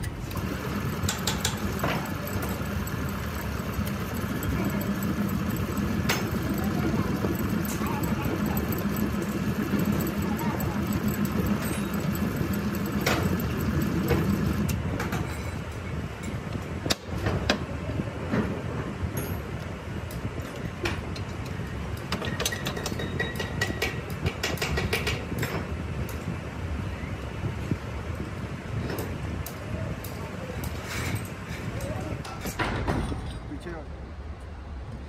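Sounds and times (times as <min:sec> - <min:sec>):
workshop machine running: 0:00.0 - 0:35.0.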